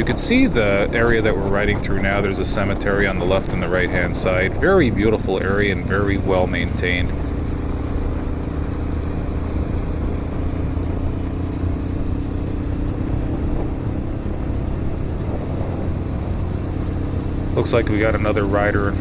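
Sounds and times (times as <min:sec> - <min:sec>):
motorcycle engine cruising: 0:00.0 - 0:19.0
road and wind noise: 0:00.0 - 0:19.0.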